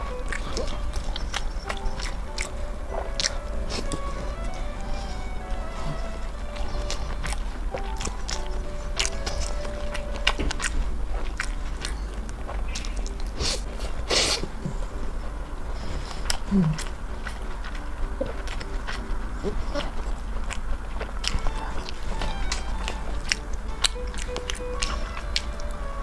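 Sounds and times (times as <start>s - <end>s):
chewing with wet mouth clicks: 0.0s - 26.0s
steady low hum: 0.0s - 26.0s.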